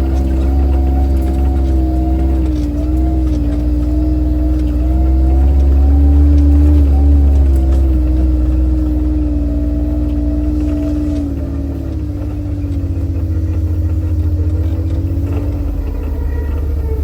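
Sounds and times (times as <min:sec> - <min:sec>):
car engine driving: 0:00.0 - 0:17.0.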